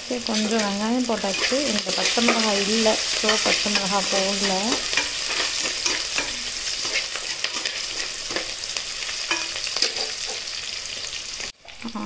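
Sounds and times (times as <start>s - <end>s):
onions sizzling in hot oil: 0.0s - 12.0s
spoon scraping against pot: 0.4s - 10.6s.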